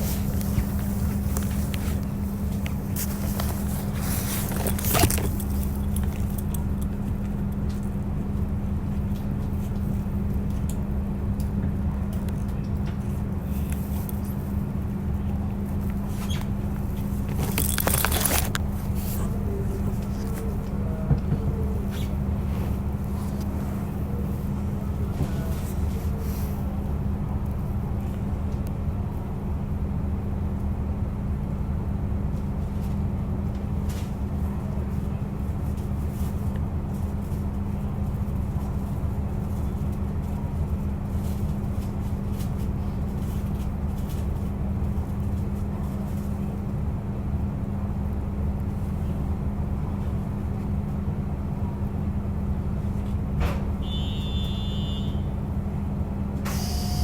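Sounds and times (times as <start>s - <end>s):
rail noise: 0.0s - 57.0s
railcar engine drone: 0.0s - 57.0s.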